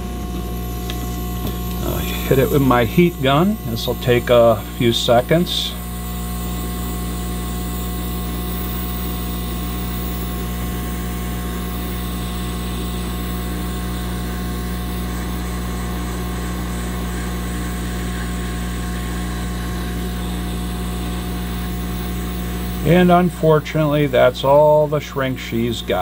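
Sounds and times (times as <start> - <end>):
heat gun blowing air: 0.0 - 26.0.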